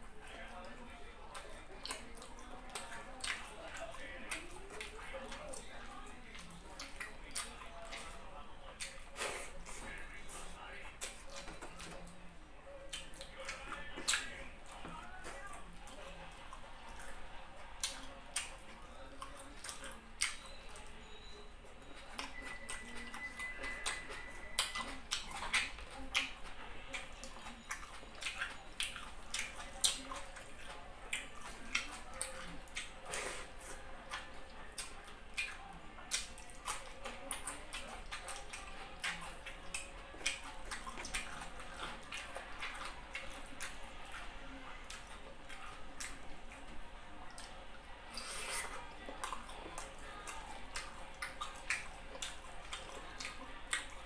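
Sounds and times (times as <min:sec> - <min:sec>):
wet chewing and lip smacks: 0:00.0 - 0:54.0.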